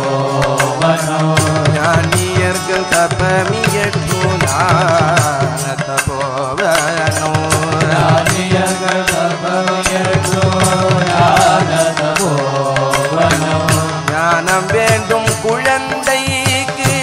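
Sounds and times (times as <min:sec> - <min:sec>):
hand percussion beat: 0:00.0 - 0:17.0
person singing ornamented melody: 0:00.0 - 0:17.0.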